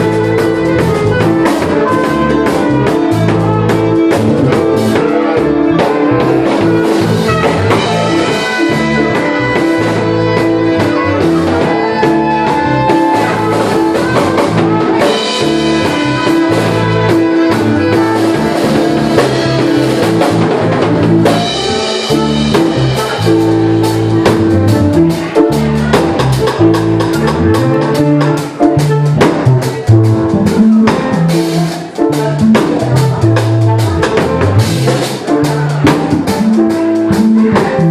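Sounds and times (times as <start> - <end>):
bass line: 0.0 - 37.9
drum kit: 0.0 - 37.9
jazz fusion band playing: 0.0 - 37.9.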